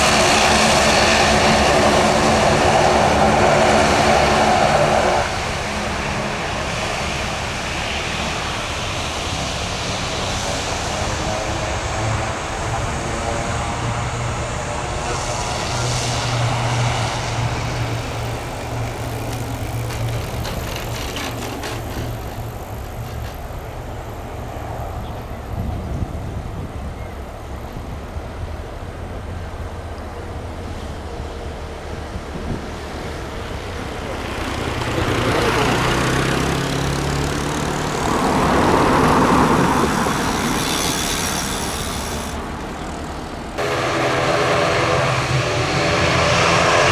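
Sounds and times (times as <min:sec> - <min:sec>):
road traffic noise: 0:00.0 - 0:46.9
turboprop engines droning: 0:00.0 - 0:46.9.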